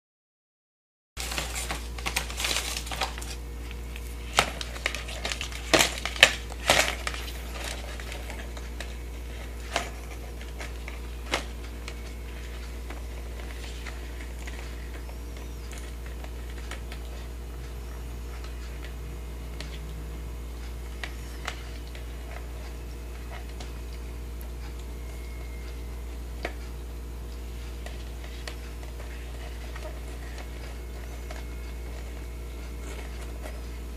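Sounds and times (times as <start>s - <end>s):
low hum: 1.2s - 33.9s.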